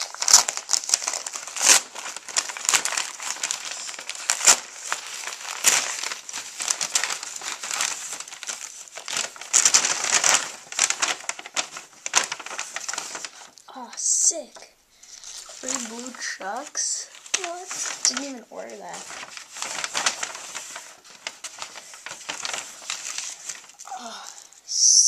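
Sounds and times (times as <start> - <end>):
plastic mailer bag crinkling: 0.0 - 24.6.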